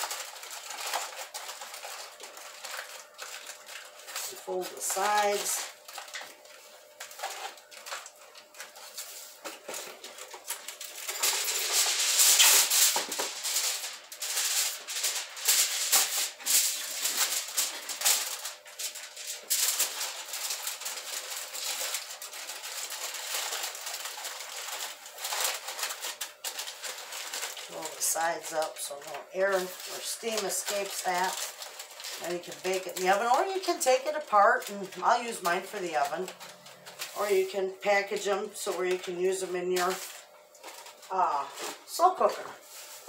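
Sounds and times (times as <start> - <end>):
aluminium foil crinkling: 0.0 - 43.0.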